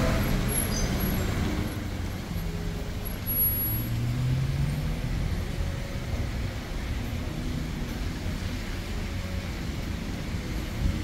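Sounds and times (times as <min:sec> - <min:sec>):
tyres hissing on wet road: 0:00.0 - 0:11.0
vehicle engines running: 0:00.0 - 0:11.0.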